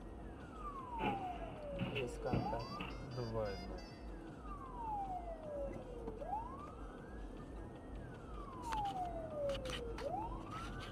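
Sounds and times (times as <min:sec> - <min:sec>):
ambulance siren wailing: 0:00.0 - 0:10.9.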